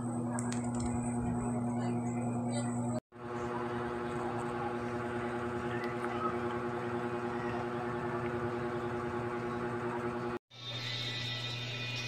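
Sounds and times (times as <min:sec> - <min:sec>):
mini fan humming: 0:00.0 - 0:12.0.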